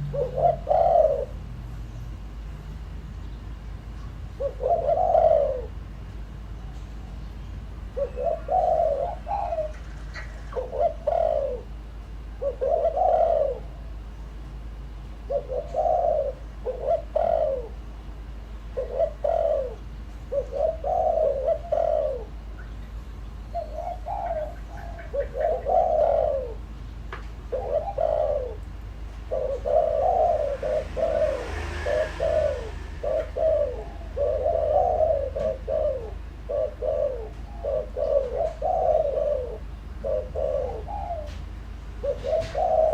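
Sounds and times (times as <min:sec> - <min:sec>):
dove cooing: 0:00.0 - 0:01.7, 0:04.3 - 0:06.0, 0:07.8 - 0:14.1, 0:15.1 - 0:18.0, 0:18.6 - 0:22.8, 0:23.5 - 0:26.7, 0:27.4 - 0:42.9.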